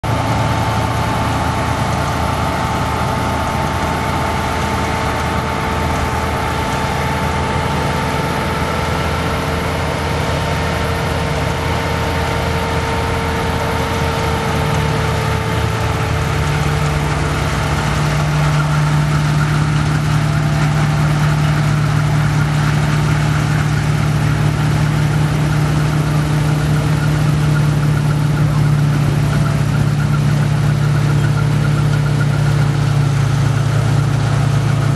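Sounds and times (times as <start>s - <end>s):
combine harvester engine drone: 0.0s - 34.9s
high steady whine: 0.0s - 34.9s.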